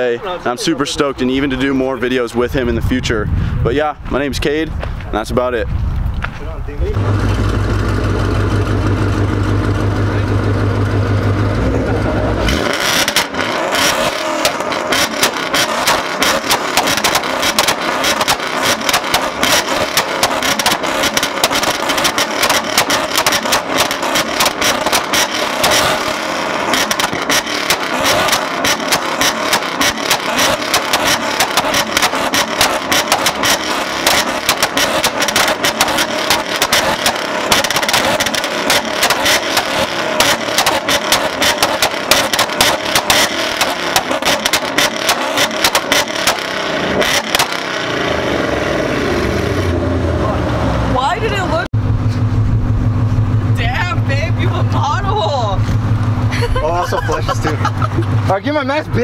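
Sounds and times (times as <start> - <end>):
exhaust popping and crackling: 1.3 - 59.0
car engines on launch limiter: 6.8 - 59.0.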